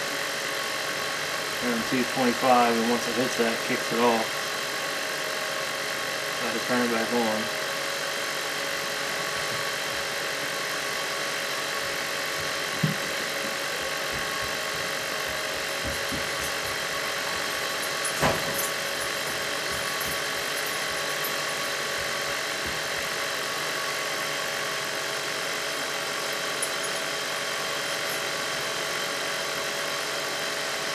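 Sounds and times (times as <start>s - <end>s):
blower hum: 0.0s - 30.9s.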